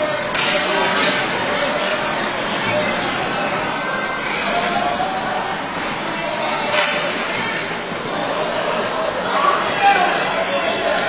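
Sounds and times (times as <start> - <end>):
arena hall ambience: 0.0 - 11.0.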